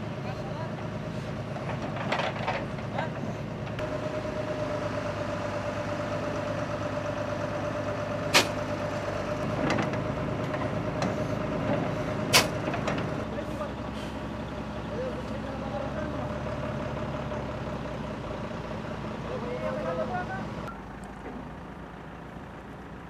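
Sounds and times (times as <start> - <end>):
construction machinery engines: 0.0 - 23.0.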